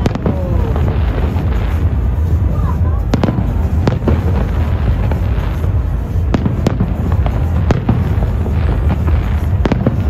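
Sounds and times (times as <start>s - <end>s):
distant fireworks booms: 0.0s - 10.0s
sharp firework cracks: 0.0s - 10.0s.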